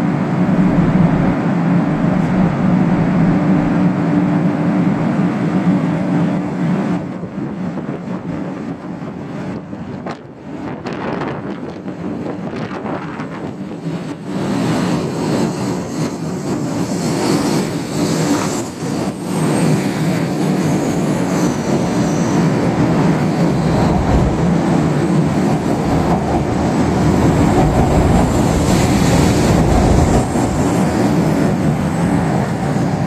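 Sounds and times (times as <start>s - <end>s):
train rumbling: 0.0s - 5.6s, 10.2s - 33.0s.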